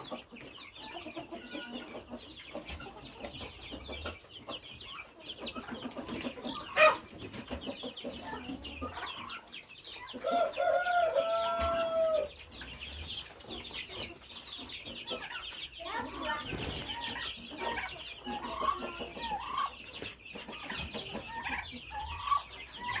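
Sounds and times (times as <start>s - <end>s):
drawn-out chicken call: 0.0s - 4.2s, 4.8s - 23.0s
chicks peeping: 0.0s - 23.0s.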